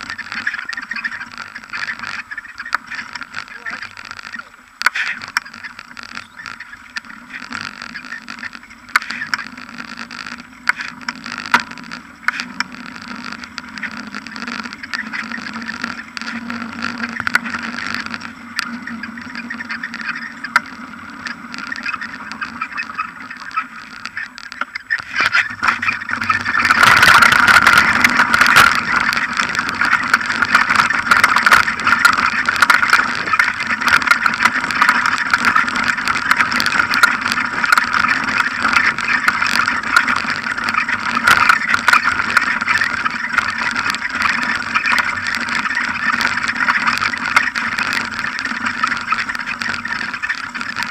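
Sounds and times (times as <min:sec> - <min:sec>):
bike clicks and knocks: 0:00.0 - 0:50.9.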